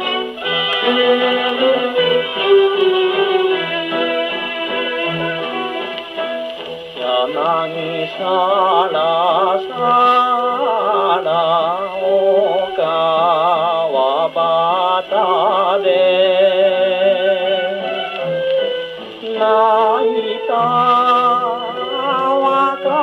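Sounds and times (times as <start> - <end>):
instrumental accompaniment: 0.0 - 23.0
man singing with vibrato: 0.4 - 5.8, 6.9 - 23.0.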